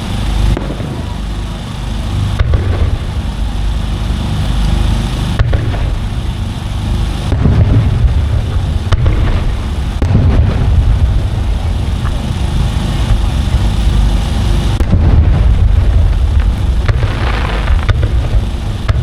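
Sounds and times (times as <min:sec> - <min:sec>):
fireworks sharp cracks: 0:00.0 - 0:04.4, 0:05.1 - 0:19.0
fireworks booming: 0:00.0 - 0:19.0.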